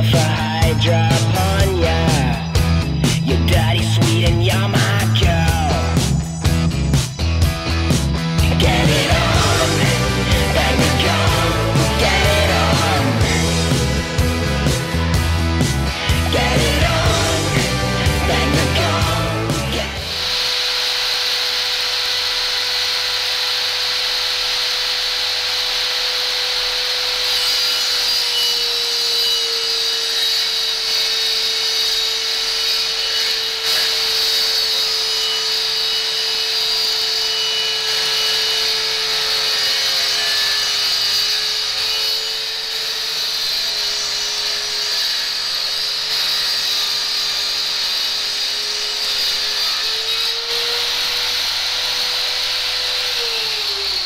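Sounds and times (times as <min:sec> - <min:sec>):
power saw cutting wood: 0:00.0 - 0:54.0.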